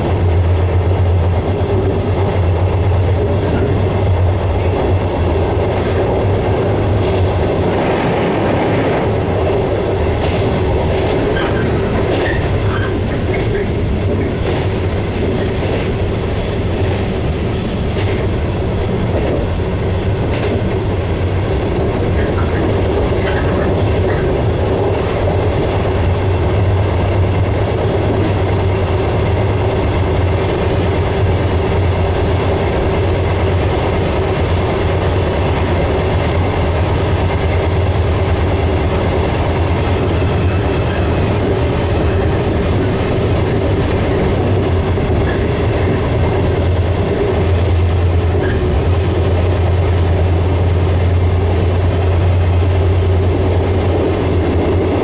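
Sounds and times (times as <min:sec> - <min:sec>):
train rumble and hum: 0:00.0 - 0:55.0
wheels clicking over rail joints: 0:00.0 - 0:55.0.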